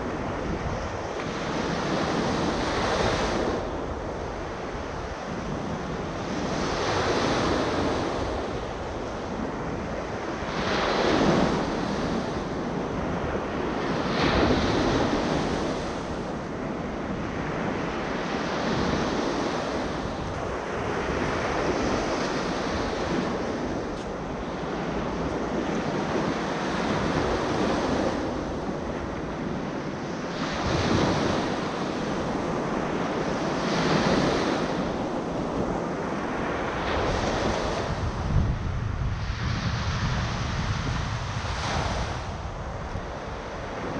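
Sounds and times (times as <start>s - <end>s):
waves breaking on beach: 0.0s - 43.9s
wind on microphone: 0.0s - 43.9s.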